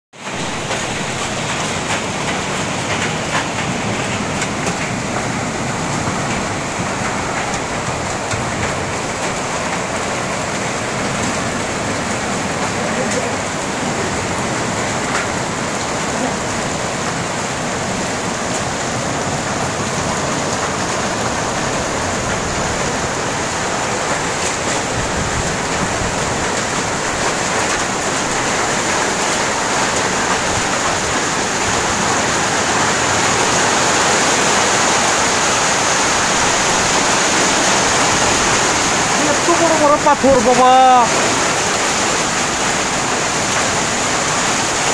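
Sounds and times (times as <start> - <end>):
heavy rain on metal roofs: 0.1 - 44.9.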